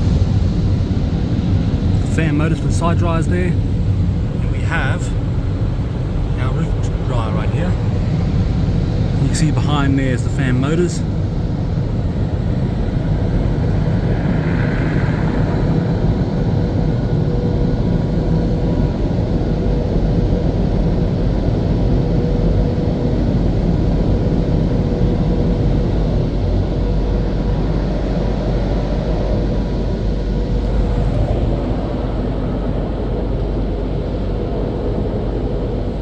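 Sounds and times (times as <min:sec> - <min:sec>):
blower dryers rushing air: 0:00.0 - 0:36.0
faint hum: 0:00.0 - 0:36.0.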